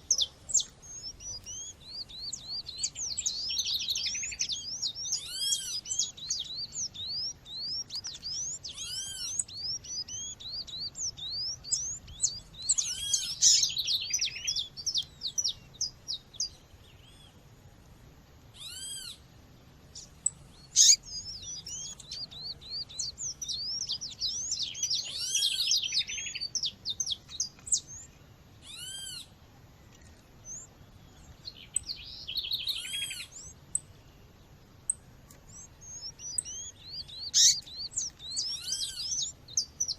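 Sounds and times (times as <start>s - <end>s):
bird calling: 0.0s - 17.2s, 20.0s - 29.3s, 29.9s - 33.6s, 34.9s - 39.9s
chorus of small birds chirping: 0.0s - 39.9s.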